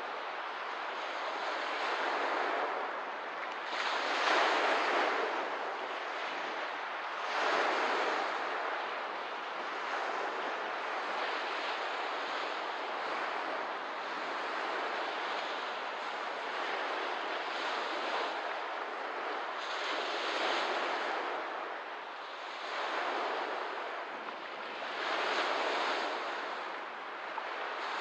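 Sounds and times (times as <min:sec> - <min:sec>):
lake waves washing onto shore: 0:00.0 - 0:28.0.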